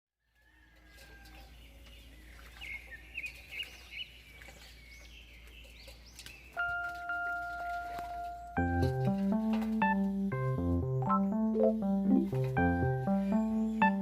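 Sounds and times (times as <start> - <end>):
birds chirping: 1.3 - 14.0.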